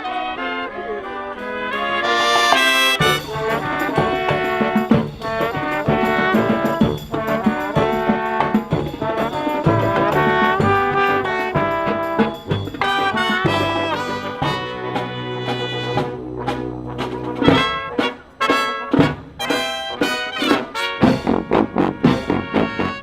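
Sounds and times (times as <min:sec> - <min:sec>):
brass band playing: 0:00.0 - 0:23.0
drum beat: 0:02.1 - 0:23.0.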